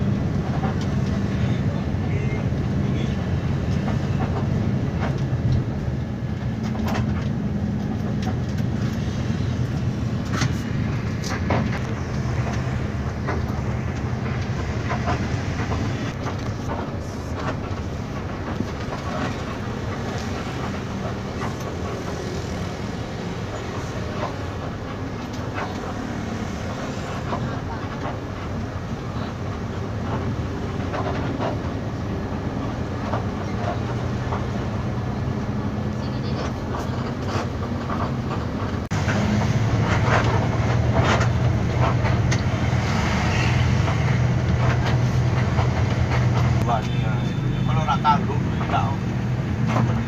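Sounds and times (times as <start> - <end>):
bodywork clicks and rattles: 0.0 - 47.4, 48.2 - 50.0
bus engine and road drone: 0.0 - 50.0.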